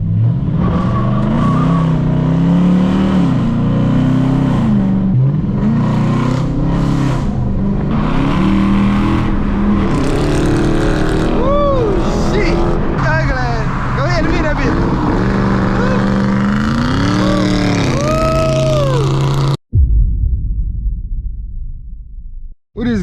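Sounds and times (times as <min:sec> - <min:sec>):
car engines revving hard: 0:00.0 - 0:19.6.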